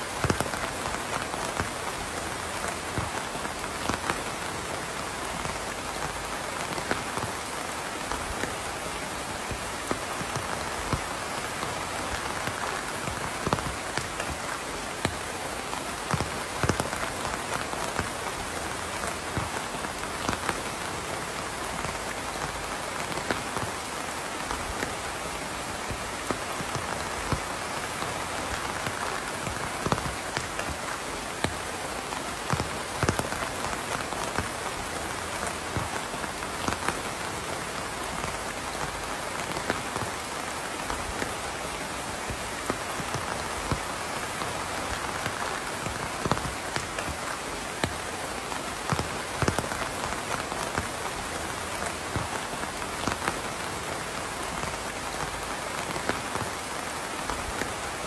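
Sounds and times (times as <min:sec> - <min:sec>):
raindrops ticking on hard surface: 0:00.0 - 0:58.0
steady rainfall hiss: 0:00.0 - 0:58.0.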